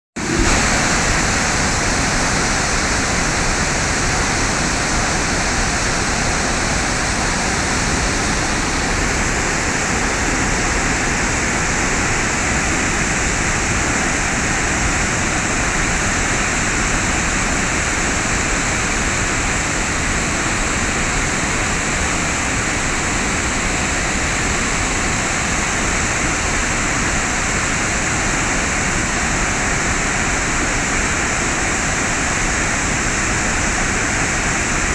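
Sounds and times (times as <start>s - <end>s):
water rushing over dam spillway: 0.2s - 34.9s.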